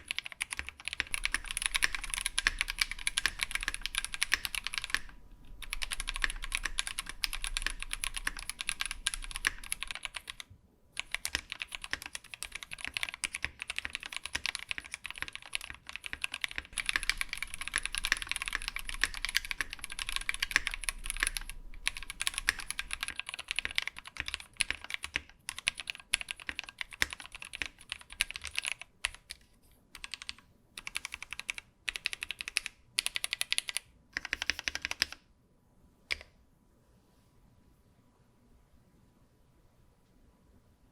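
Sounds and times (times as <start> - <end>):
typing on mechanical keyboard: 0.0 - 35.3, 36.1 - 36.3.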